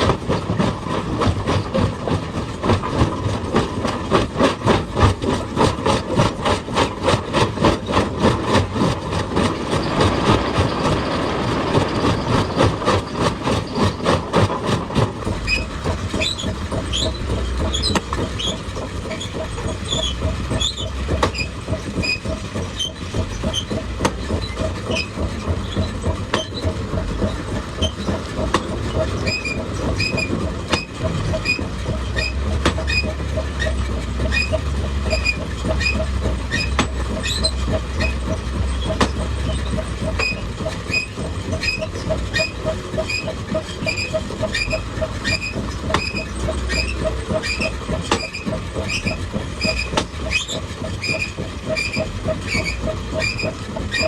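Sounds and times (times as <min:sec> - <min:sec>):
hydraulic breaker hammering stone: 0:00.0 - 0:54.0.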